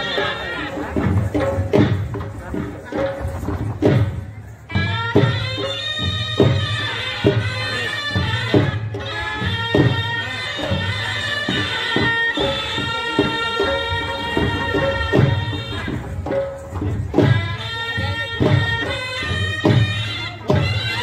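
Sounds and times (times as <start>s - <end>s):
steady drum beats: 0.0s - 21.0s.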